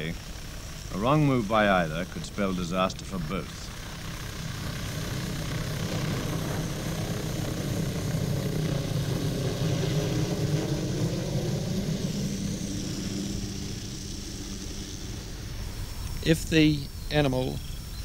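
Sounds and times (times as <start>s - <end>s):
helicopter rotor beat and engine: 0.0s - 18.0s
thin high whine: 0.0s - 18.0s.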